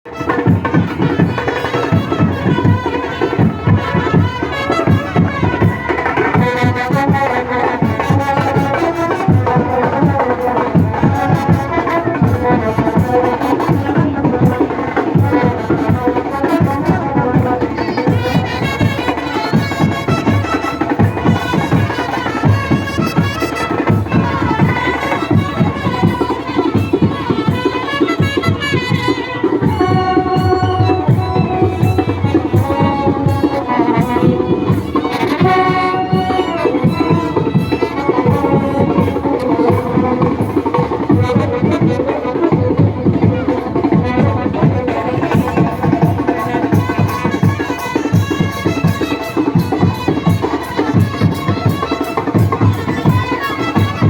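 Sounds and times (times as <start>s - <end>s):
brass band playing: 0.0s - 54.0s
busy drum beat: 0.0s - 54.0s.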